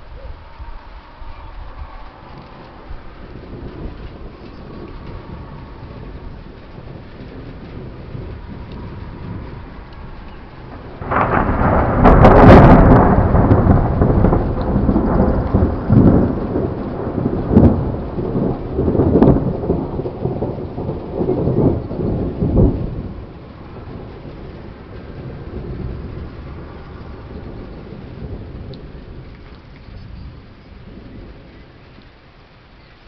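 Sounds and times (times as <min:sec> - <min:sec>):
thunderclap: 0:00.0 - 0:32.4
thunder rumbling: 0:00.0 - 0:33.0.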